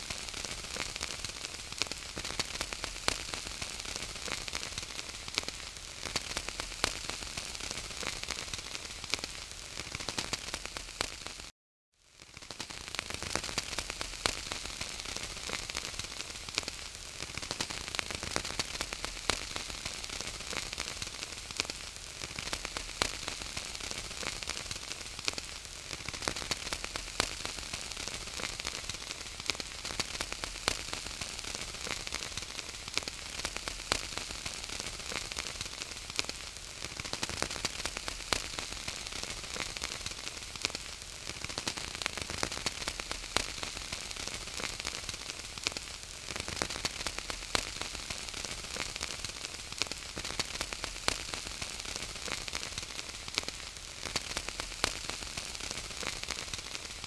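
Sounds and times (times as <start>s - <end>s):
wood fire crackling: 0.1s - 11.5s, 12.2s - 57.0s.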